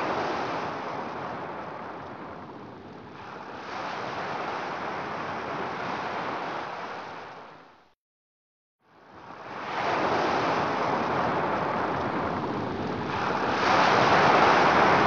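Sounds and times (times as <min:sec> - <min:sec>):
ocean surf washing in: 0:00.0 - 0:07.6, 0:09.1 - 0:15.0.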